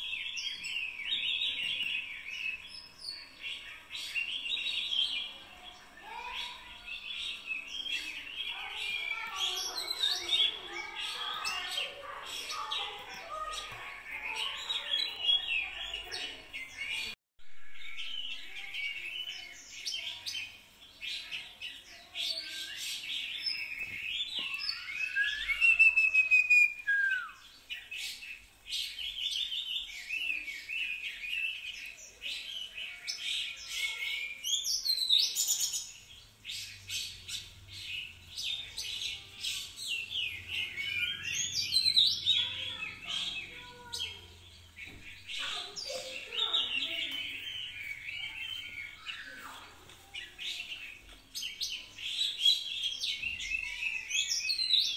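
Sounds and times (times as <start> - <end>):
small birds chirping chorus: 0.0 - 54.9.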